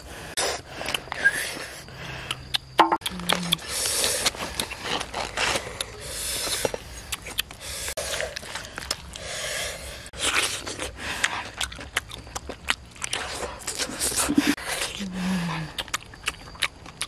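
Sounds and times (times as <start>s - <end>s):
chewing: 0.4s - 17.0s.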